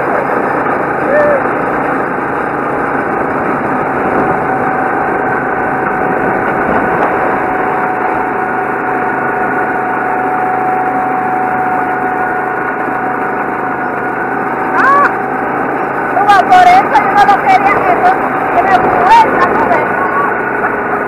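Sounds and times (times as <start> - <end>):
go-kart engine running: 0.0 - 21.0.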